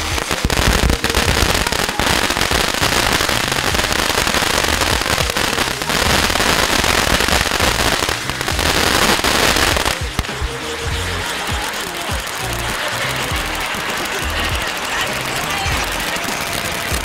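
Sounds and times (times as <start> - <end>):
firework crackling hiss: 0.0 - 17.0.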